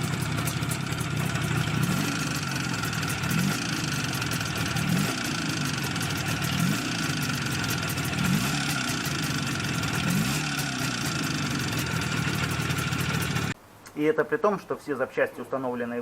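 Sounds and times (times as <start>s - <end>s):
metallic engine ringing: 0.0s - 13.6s
motorcycle engine idling with blips: 0.0s - 13.6s.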